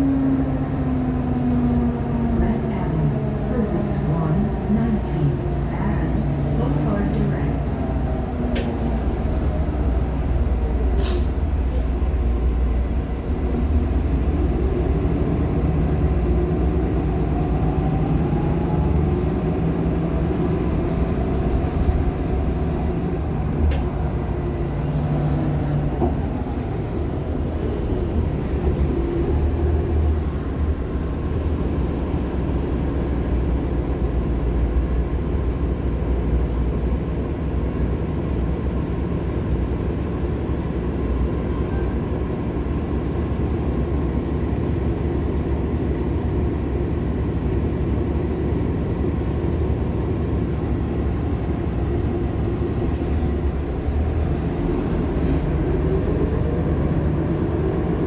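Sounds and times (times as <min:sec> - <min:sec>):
bus engine low rumble: 0:00.0 - 0:58.0.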